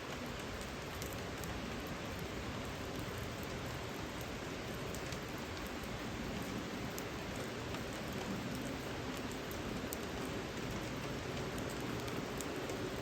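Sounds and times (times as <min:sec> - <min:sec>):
rain falling: 0:00.0 - 0:13.0
raindrop ticks: 0:00.0 - 0:13.0.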